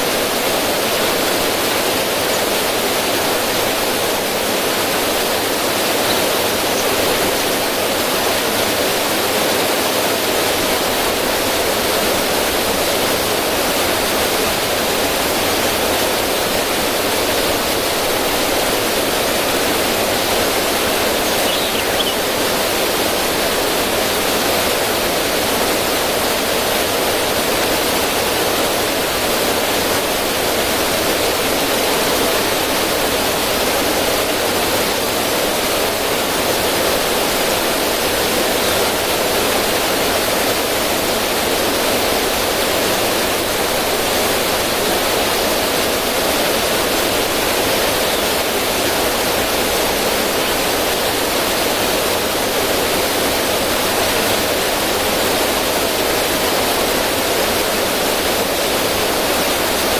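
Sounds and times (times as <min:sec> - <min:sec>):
river rushing over rocks: 0:00.0 - 0:59.9
small waterfall splashing: 0:00.0 - 0:59.9.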